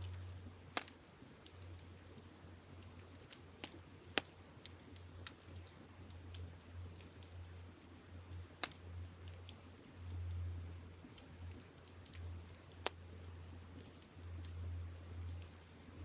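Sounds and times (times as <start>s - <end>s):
campfire crackling: 0.0s - 16.0s
low steady hum: 0.0s - 16.0s.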